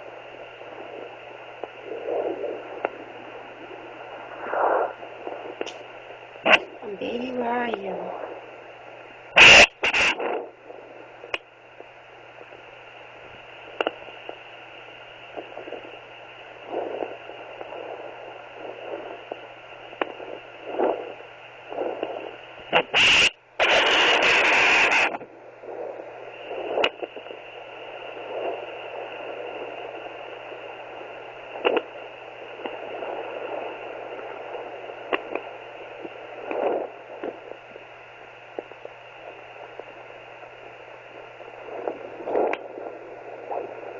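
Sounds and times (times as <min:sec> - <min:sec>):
doppler monitor static hiss: 0:00.0 - 0:43.9
loud burst of noise: 0:00.0 - 0:43.9.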